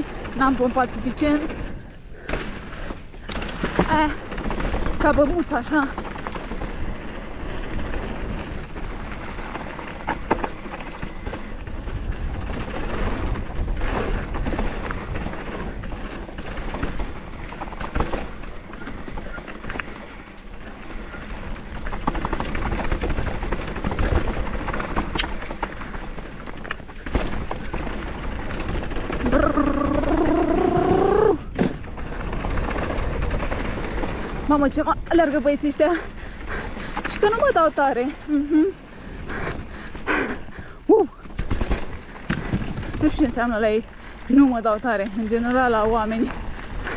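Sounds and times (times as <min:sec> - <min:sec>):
bike rattling over bumps: 0:00.0 - 0:46.9
bike tyre roar: 0:00.0 - 0:46.9
tyres humming on wooden boardwalk: 0:00.0 - 0:46.9
wind rumble on microphone: 0:00.0 - 0:46.9.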